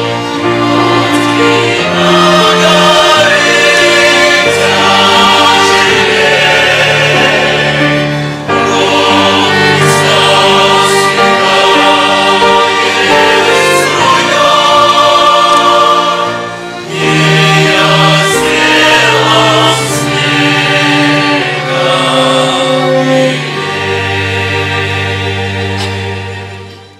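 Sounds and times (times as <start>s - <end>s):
choir singing a hymn: 0.0s - 26.9s
violins: 0.0s - 26.9s.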